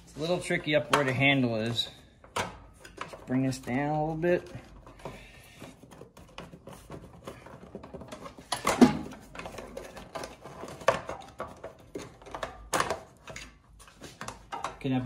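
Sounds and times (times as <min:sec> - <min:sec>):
plastic cover clicking and rattling: 0:00.7 - 0:03.8, 0:04.4 - 0:15.0.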